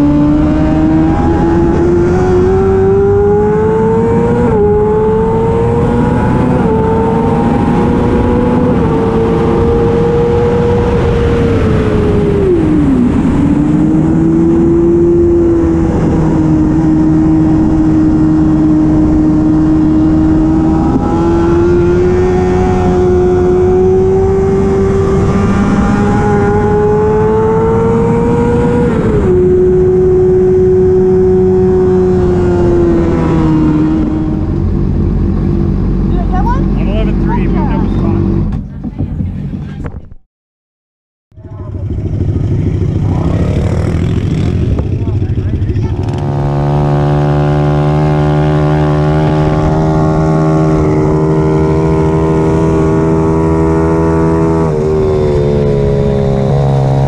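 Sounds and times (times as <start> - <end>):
racing motorcycle engine revving: 0.0 - 38.7, 41.4 - 57.0.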